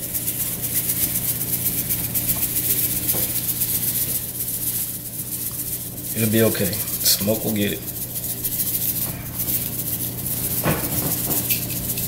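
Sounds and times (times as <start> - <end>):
low steady hum: 0.0 - 12.0
salt grains hissing onto meat: 0.0 - 12.0.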